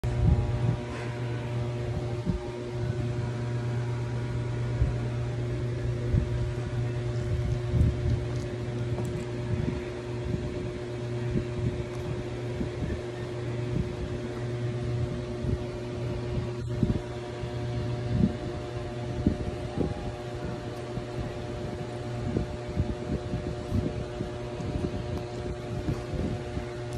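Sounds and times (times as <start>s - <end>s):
low mechanical hum: 0.0s - 26.9s.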